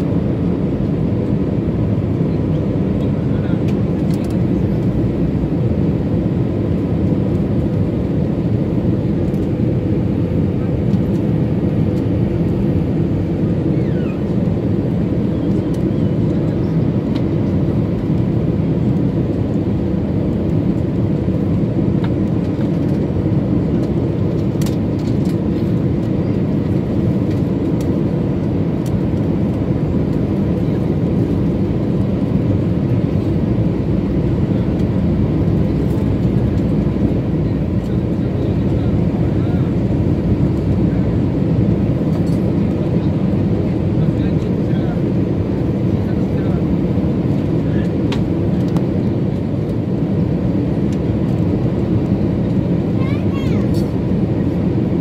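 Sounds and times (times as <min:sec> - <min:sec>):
jet cabin rumble: 0:00.0 - 0:55.0.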